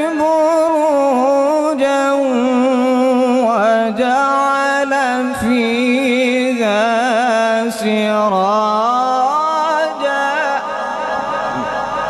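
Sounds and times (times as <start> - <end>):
man chanting through microphone: 0.0 - 12.0.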